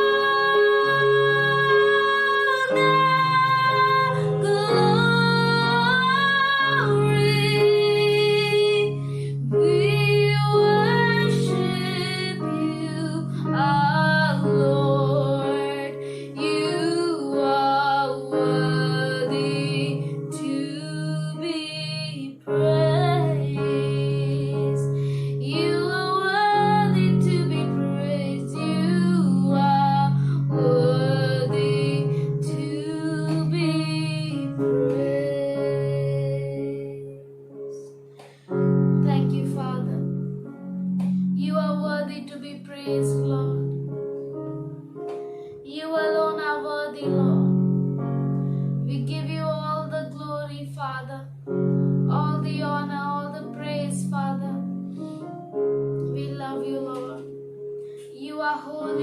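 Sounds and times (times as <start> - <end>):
woman singing: 0.0 - 37.8, 38.7 - 40.3, 41.4 - 43.8, 45.6 - 47.7, 48.8 - 51.4, 52.1 - 54.7, 56.1 - 57.4, 58.1 - 59.0.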